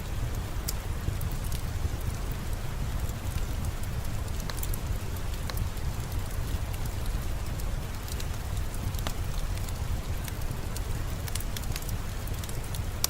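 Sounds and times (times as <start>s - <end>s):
steady rain: 0.0s - 13.0s
wood fire crackling: 0.0s - 13.0s.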